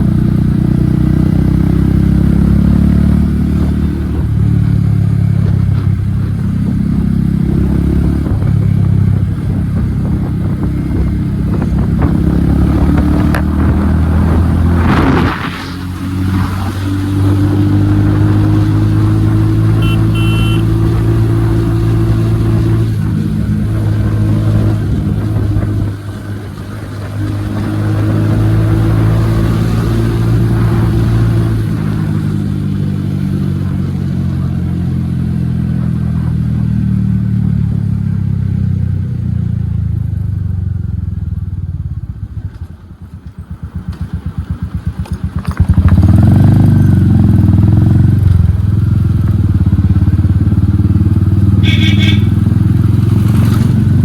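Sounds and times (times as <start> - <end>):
loud motorcycle engine revving: 0.0 - 38.2, 43.8 - 54.0.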